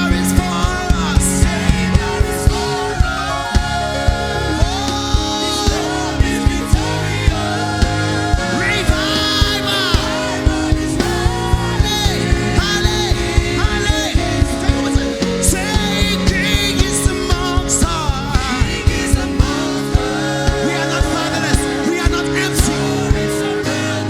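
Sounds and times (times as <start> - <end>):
live worship band: 0.0 - 24.0
person singing: 0.0 - 24.0
steady drum beat: 0.0 - 24.0.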